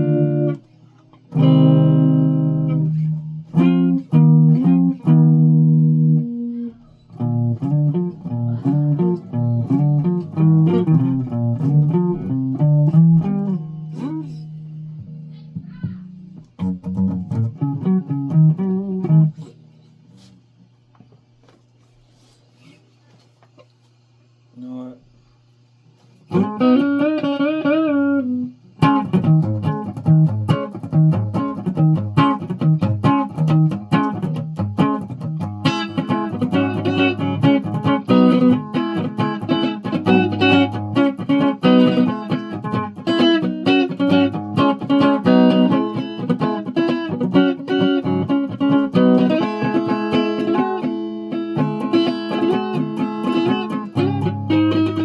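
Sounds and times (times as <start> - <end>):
guitar plucked notes: 0.0 - 19.8, 26.3 - 55.0.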